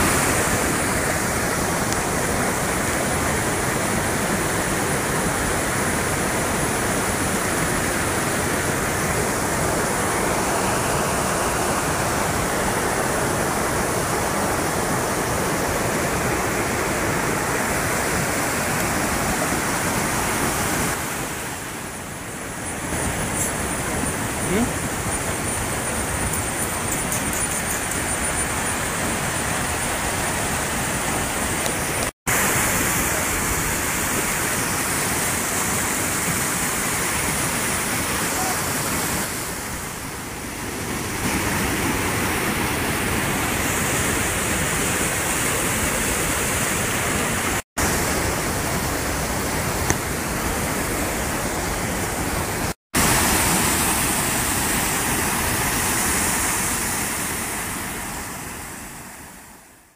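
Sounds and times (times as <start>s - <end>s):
waterfall pouring over boulders: 0.0s - 59.6s
river rapids rushing: 0.0s - 59.8s.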